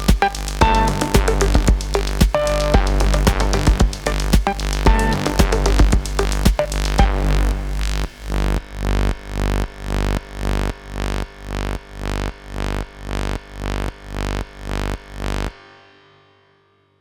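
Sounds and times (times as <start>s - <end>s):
electronic music with wobbling bass: 0.0s - 15.0s.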